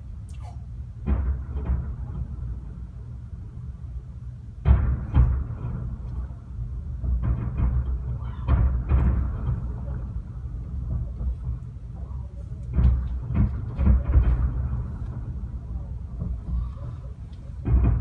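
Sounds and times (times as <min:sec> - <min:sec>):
deep fireworks booms: 0:00.0 - 0:18.0
distant fireworks rumble: 0:00.0 - 0:18.0.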